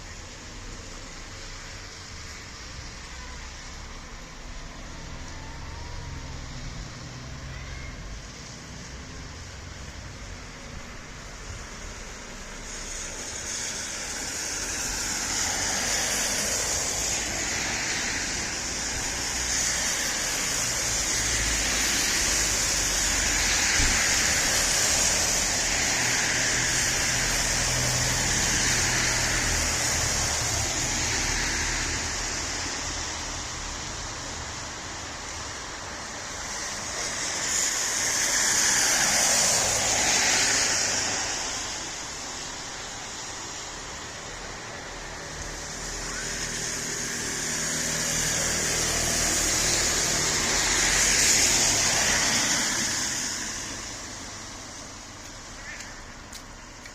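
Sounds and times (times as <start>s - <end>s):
vehicles passing: 0.0s - 56.9s.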